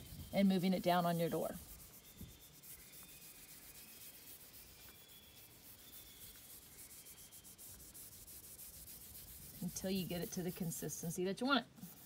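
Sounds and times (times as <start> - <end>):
paintbrush scrubbing a door: 0.0 - 12.0.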